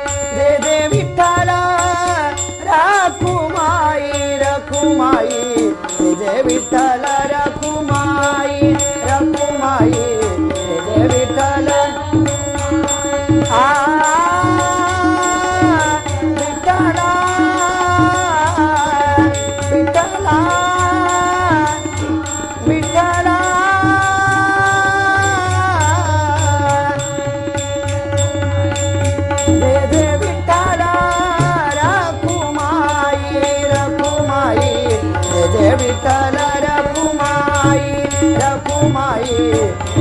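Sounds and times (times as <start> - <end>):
harmonium: 0.0 - 40.0
man singing: 0.0 - 40.0
tabla drumming: 0.0 - 40.0.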